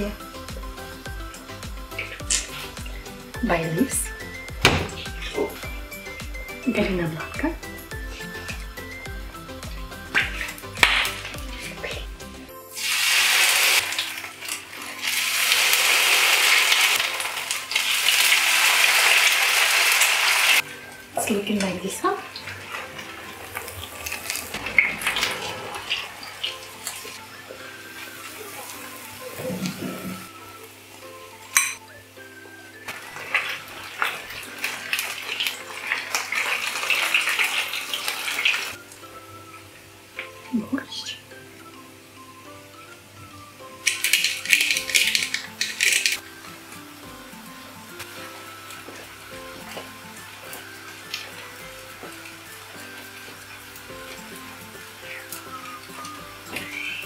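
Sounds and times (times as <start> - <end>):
batter sizzling in a frying pan: 0.0 - 57.0.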